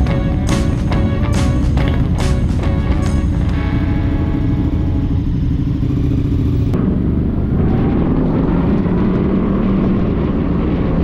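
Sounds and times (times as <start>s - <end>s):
motorcycle engines rumbling: 0.0s - 11.0s
motorcycles riding along street: 0.0s - 11.0s.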